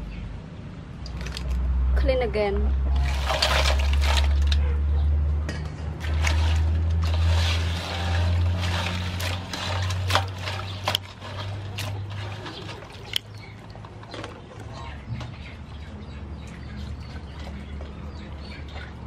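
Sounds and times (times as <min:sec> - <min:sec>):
water sloshing and trickling: 0:02.7 - 0:05.0, 0:05.7 - 0:19.0.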